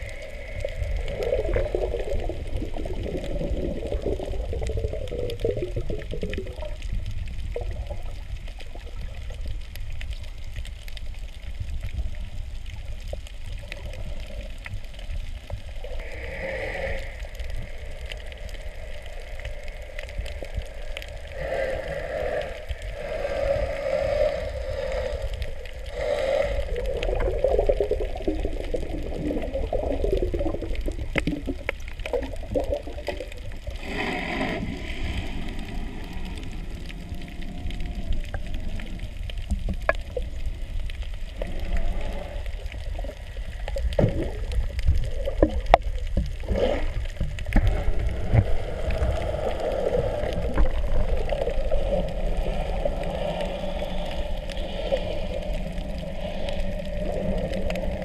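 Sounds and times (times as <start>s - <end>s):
small underwater clicks: 0.0s - 58.0s
underwater rumble of moving water: 0.0s - 58.0s
water gurgling: 0.0s - 58.0s.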